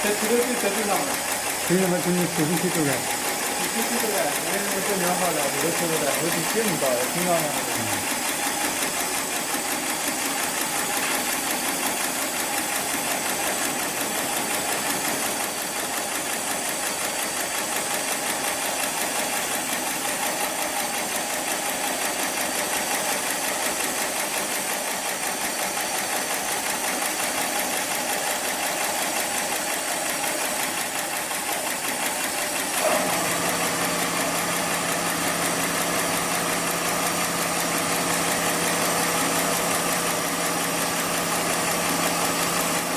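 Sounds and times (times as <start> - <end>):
sewing machine stitching: 0.0 - 42.9.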